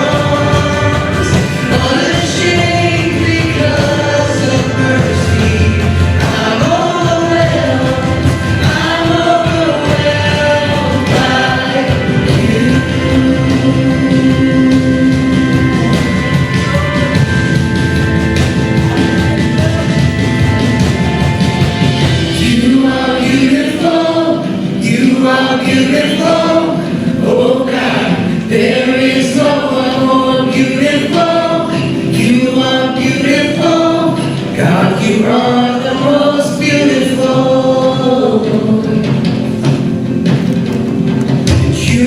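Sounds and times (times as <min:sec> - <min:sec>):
singers holding long notes: 0:00.0 - 0:42.0
worship band playing: 0:00.0 - 0:42.0.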